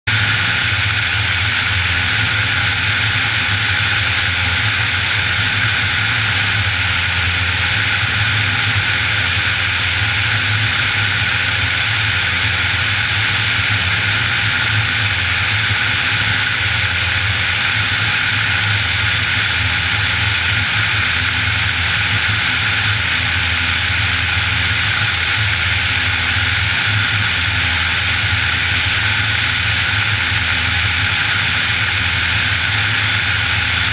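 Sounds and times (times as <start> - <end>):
aircraft engine and propeller: 0.0 - 33.9.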